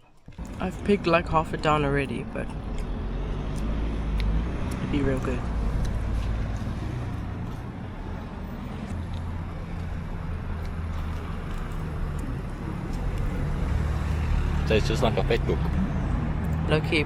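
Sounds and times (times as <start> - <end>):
car interior road rumble: 0.2 - 17.0.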